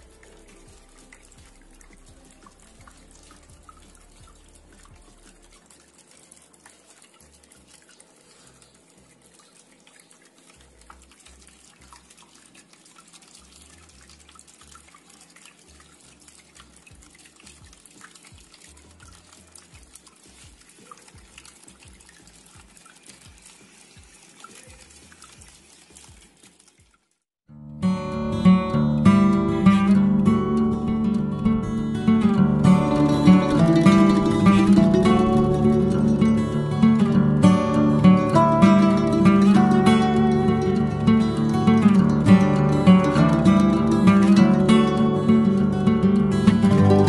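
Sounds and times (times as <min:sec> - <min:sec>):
water trickling down a fountain: 0:00.0 - 0:47.0.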